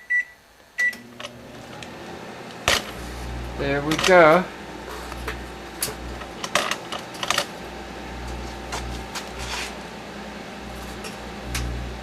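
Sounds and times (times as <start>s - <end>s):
microwave oven humming: 0.8s - 12.0s
electrical arcing crackles: 1.0s - 12.0s.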